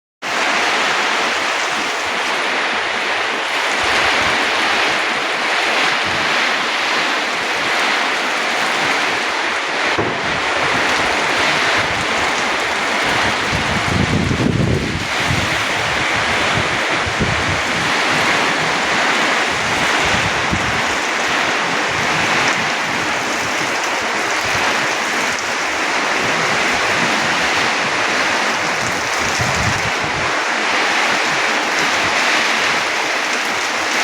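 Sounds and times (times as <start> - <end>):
heavy rain hissing: 0.3 - 34.0
wind gusts buffeting microphone: 0.3 - 34.0.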